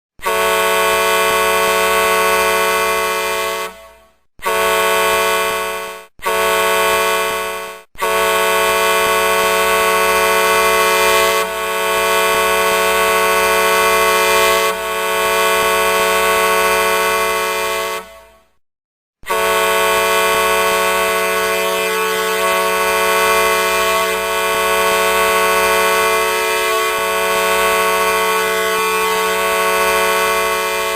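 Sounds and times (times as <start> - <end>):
truck air horn blasts: 0.1 - 18.6, 19.2 - 30.9.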